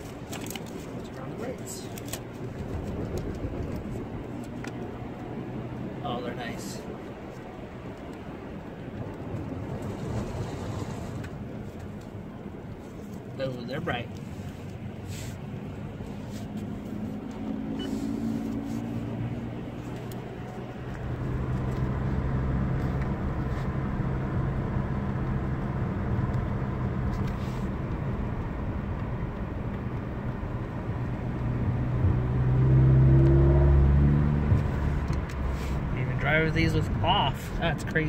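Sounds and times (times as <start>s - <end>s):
car engine and road noise hum: 0.0s - 38.0s.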